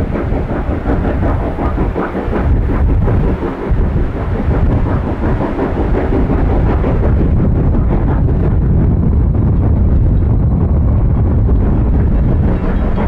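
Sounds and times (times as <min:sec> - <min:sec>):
steam locomotive rumbling exhaust beats: 0:00.0 - 0:13.0.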